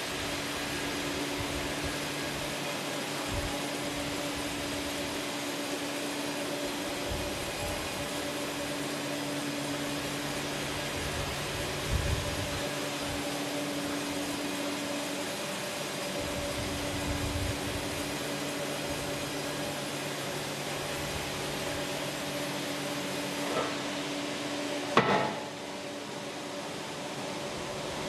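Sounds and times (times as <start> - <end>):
sawmill machinery humming: 0.0 - 28.0.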